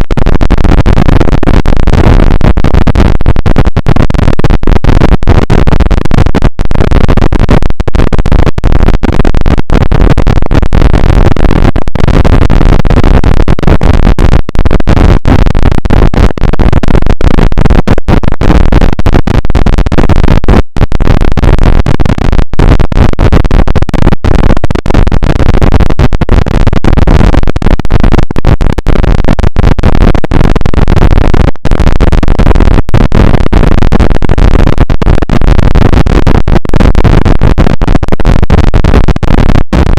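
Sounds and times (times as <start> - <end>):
harsh distorted noise: 0.0 - 39.9.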